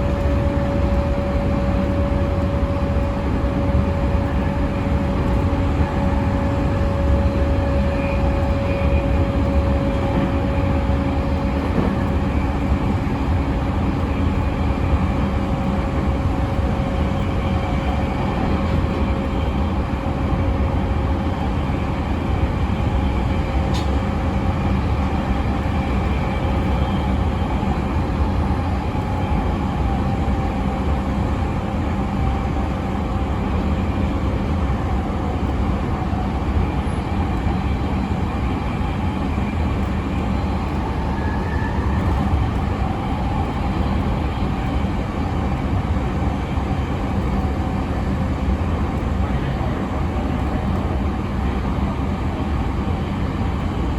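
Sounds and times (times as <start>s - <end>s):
train wheel-on-rail rumble: 0.0s - 53.9s.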